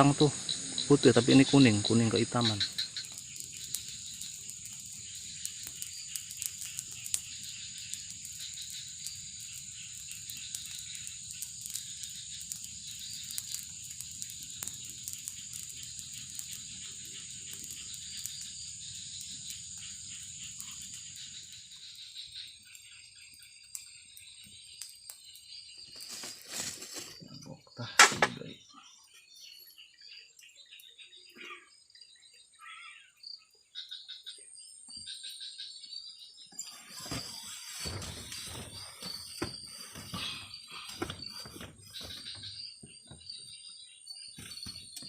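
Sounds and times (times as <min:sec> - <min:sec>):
crickets chirring: 0:00.0 - 0:45.0.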